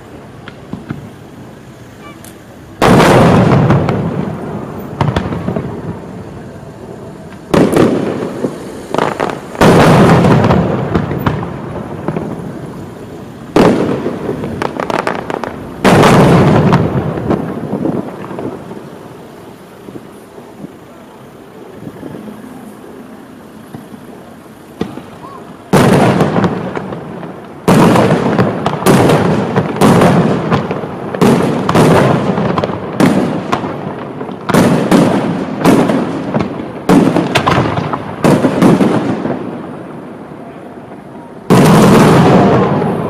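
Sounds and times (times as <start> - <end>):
firework shells bursting: 0.0 - 39.8.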